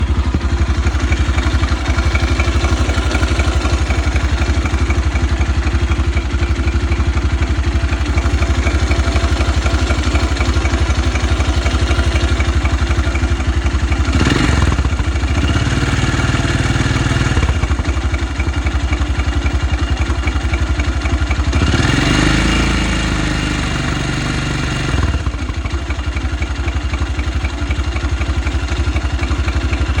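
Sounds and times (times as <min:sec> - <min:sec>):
motorcycle engine idling with knock: 0:00.0 - 0:22.7, 0:23.6 - 0:30.0
motorcycle engine revving: 0:00.0 - 0:30.0.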